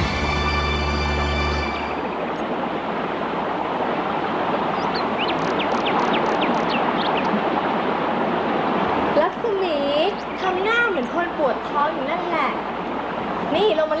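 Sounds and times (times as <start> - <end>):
waterfall rushing into pool: 0.0 - 14.0.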